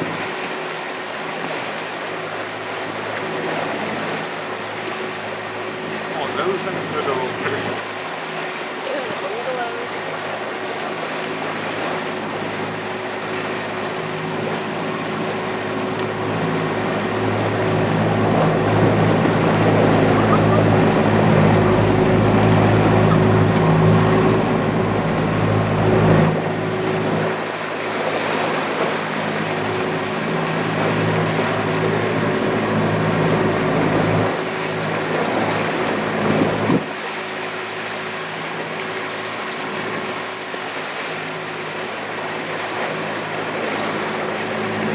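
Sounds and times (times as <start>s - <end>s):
boat engine running: 0.0s - 44.9s
hiss of water and wind: 0.0s - 44.9s.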